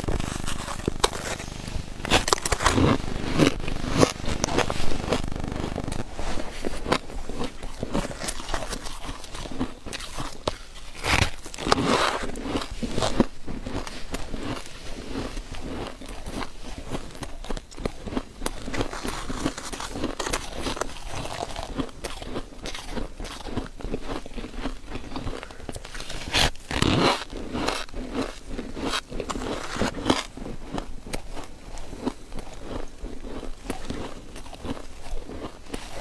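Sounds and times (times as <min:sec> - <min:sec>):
crushed ice being chewed: 0:00.0 - 0:36.0.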